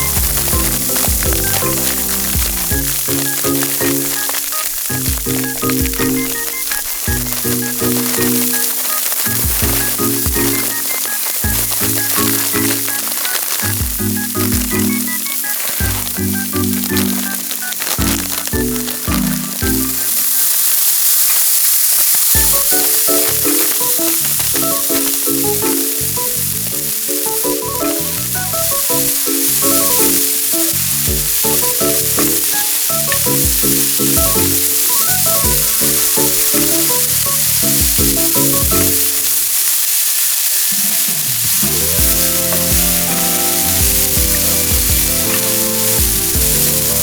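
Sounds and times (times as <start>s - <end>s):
background music: 0.0s - 20.2s, 22.4s - 39.2s, 41.7s - 47.0s
food sizzling in a pan: 0.0s - 47.0s.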